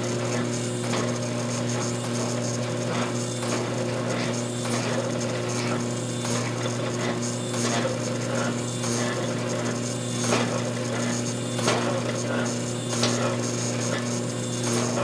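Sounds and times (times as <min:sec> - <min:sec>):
forging press humming: 0:00.0 - 0:15.0.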